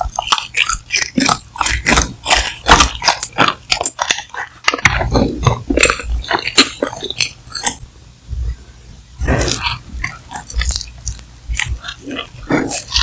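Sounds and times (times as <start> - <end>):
wet bite and chew: 0.0 - 7.8, 9.2 - 13.0.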